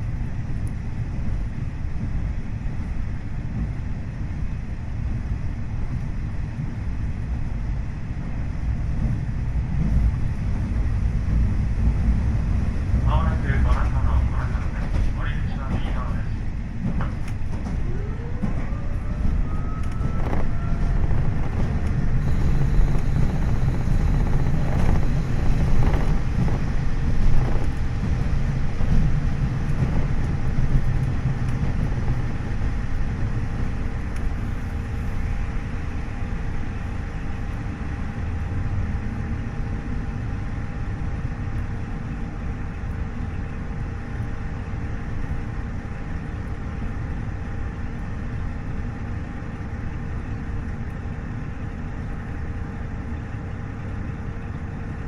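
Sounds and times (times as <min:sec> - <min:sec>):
diesel railcar rumbling on rails: 0:00.0 - 0:55.0
steady whine: 0:09.9 - 0:55.0.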